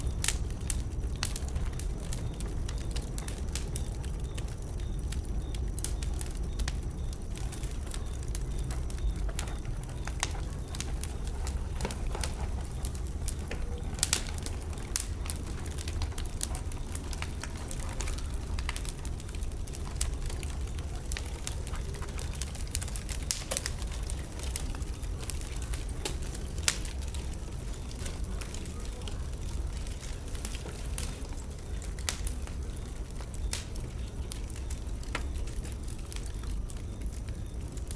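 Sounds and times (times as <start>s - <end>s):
bonfire crackling and popping: 0.0s - 37.9s
fire low rumble: 0.0s - 37.9s.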